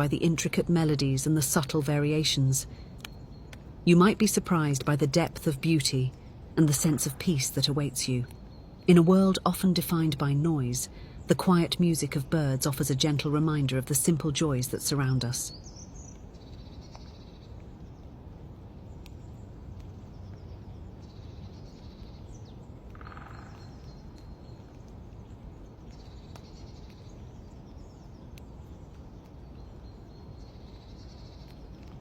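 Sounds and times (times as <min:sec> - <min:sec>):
outdoor background hiss: 0:00.0 - 0:32.0
songbirds singing: 0:00.0 - 0:32.0.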